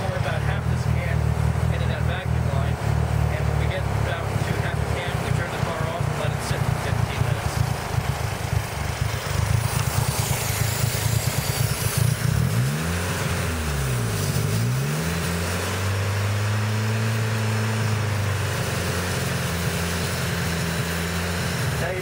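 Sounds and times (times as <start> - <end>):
car engine running rough: 0.0 - 22.0.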